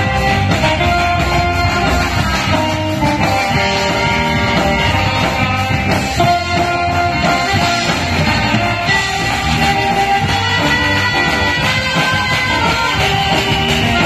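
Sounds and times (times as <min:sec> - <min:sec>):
bass drum beats: 0:00.0 - 0:14.0
saxophone melody: 0:00.0 - 0:14.0.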